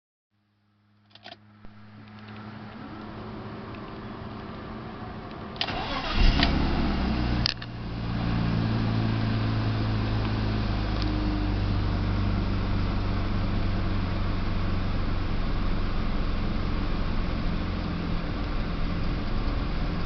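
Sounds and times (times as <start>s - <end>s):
car engine starting and idling: 1.1s - 20.0s.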